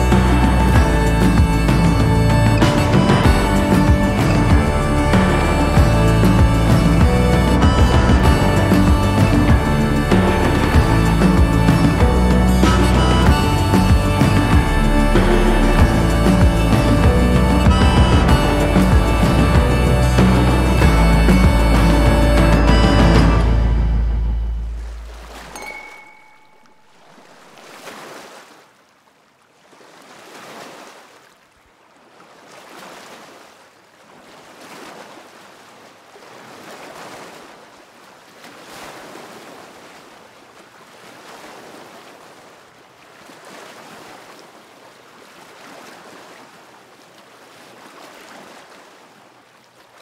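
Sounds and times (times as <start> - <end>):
waves lapping at shore: 0.0 - 50.0.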